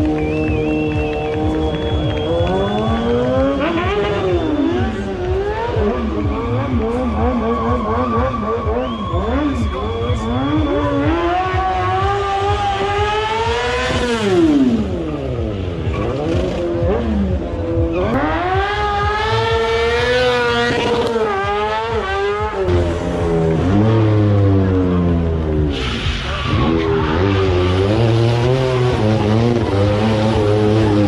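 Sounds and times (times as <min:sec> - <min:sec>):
car engine revving hard: 0:00.0 - 0:31.0.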